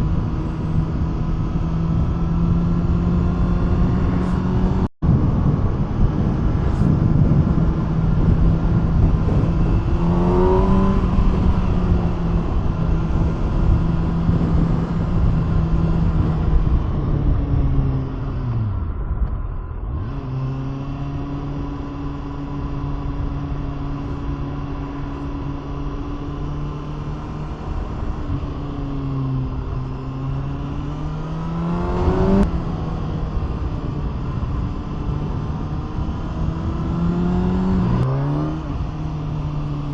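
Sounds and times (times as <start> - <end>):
motorcycle engine revving: 0.0 - 19.1, 19.9 - 39.9
wind rush: 0.0 - 39.9.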